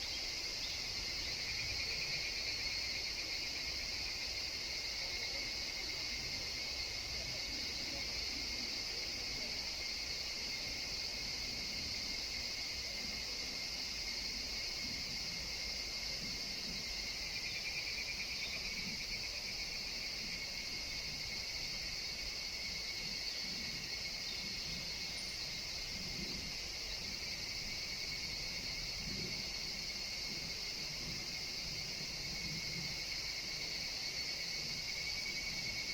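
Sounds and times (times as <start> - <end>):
cicadas shrilling: 0.0 - 35.9.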